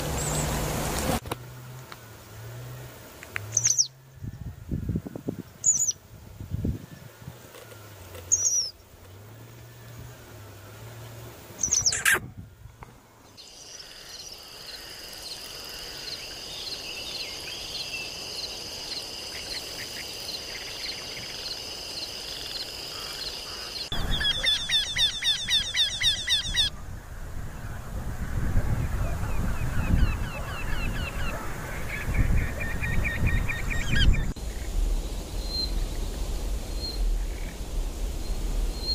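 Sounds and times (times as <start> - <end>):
songbirds chirping and trilling: 1.8 - 12.2, 13.2 - 26.8, 28.7 - 38.9.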